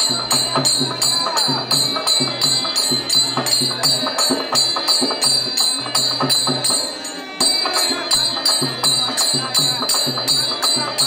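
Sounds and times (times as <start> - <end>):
drum beats: 0.0 - 11.0
hand cymbals clashing: 0.0 - 11.0.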